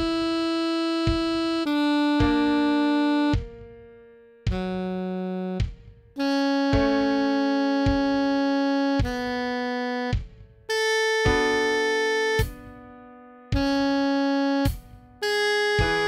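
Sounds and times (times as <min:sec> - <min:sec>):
computer-generated melody with chords: 0:00.0 - 0:16.0.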